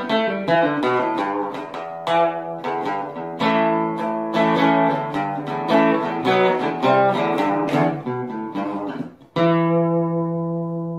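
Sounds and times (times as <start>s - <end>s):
guitar strumming chords: 0.0s - 10.9s.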